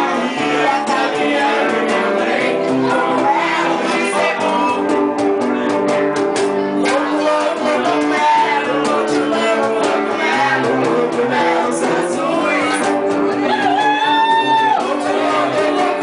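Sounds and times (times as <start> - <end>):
guitars playing: 0.0 - 16.0.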